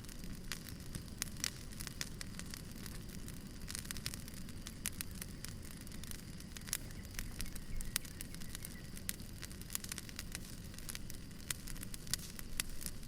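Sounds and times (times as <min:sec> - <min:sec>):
firewood crackling and popping: 0:00.0 - 0:13.0.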